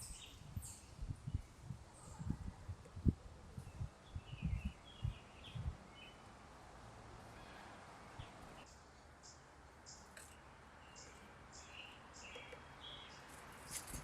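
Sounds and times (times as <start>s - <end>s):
small songbirds calling: 0.0s - 2.3s, 3.5s - 6.4s, 7.2s - 14.0s.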